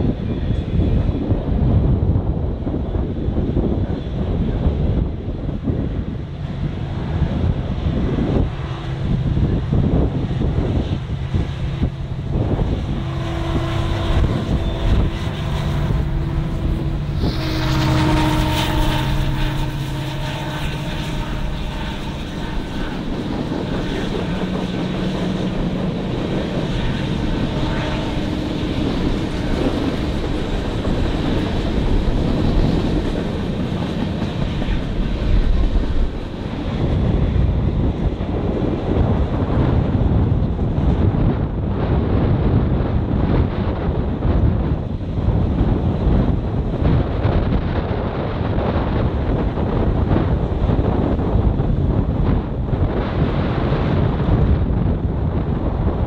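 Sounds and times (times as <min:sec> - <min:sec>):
diesel train rumbling past: 0:00.0 - 0:56.0.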